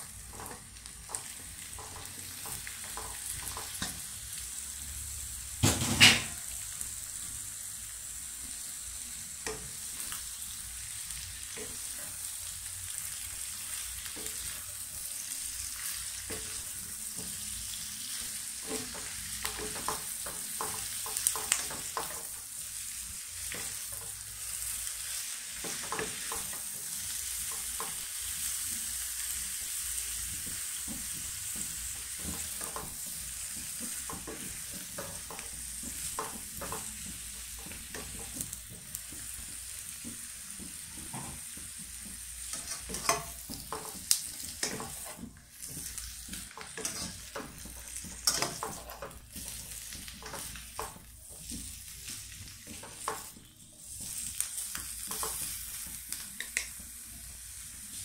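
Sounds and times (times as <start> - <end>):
vegetables sizzling in a wok: 0.0 - 58.0
spatula scraping and knocking pan: 0.1 - 4.1, 12.9 - 22.5, 23.4 - 57.0.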